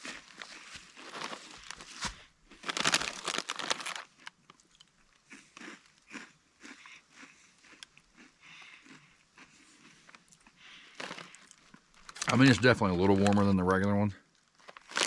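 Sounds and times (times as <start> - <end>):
person chewing crunchy snacks: 0.0 - 13.5, 14.3 - 15.0.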